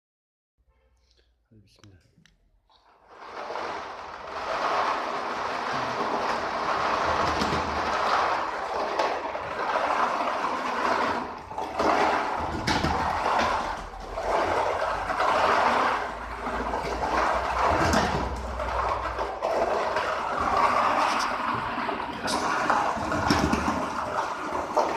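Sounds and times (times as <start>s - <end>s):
lottery machine rushing: 3.0s - 24.9s
plastic balls knocking together: 3.0s - 24.9s.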